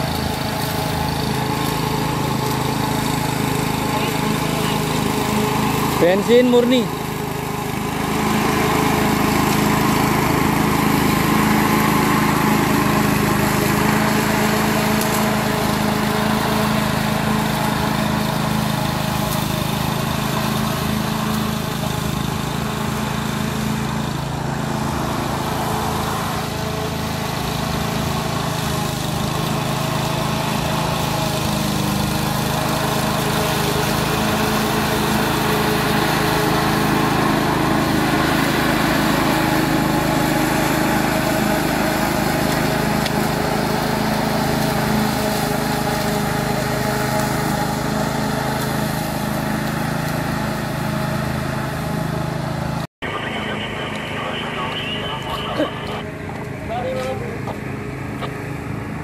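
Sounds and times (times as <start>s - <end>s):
lawn mower cutting grass: 0.0s - 52.8s, 53.8s - 59.0s.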